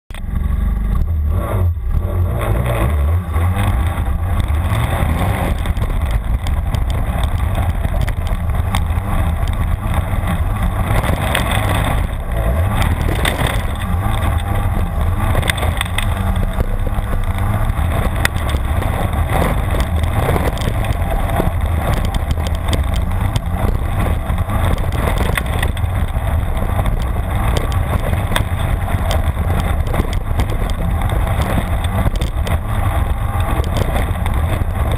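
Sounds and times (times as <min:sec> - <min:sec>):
track churning over dirt: 0:00.1 - 0:34.9
snowmobile engine running: 0:00.2 - 0:34.9.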